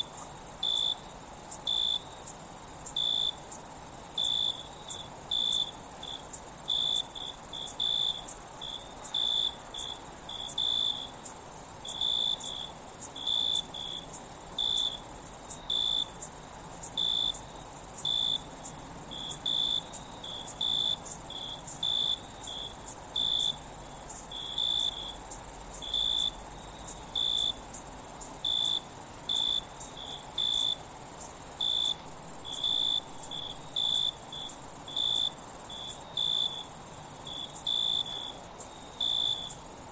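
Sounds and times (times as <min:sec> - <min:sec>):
crickets chirping: 0:00.0 - 0:39.9
high-pitched insect trill: 0:00.0 - 0:39.9.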